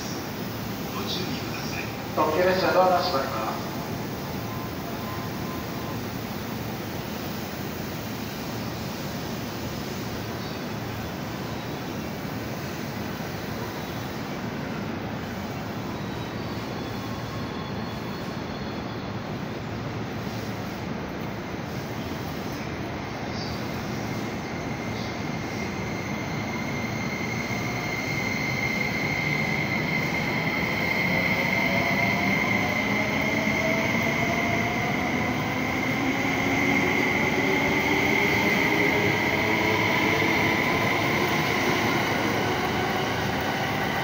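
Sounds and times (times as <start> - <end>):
train wheel and running noise: 0.0 - 44.0.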